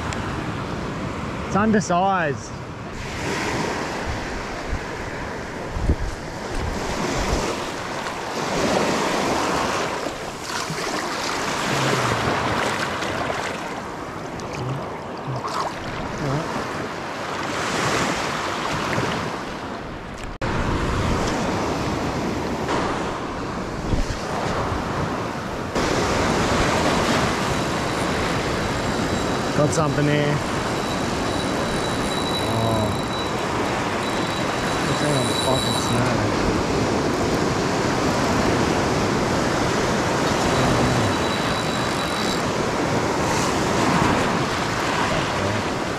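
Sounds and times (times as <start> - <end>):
small waves breaking on beach: 2.9 - 45.9.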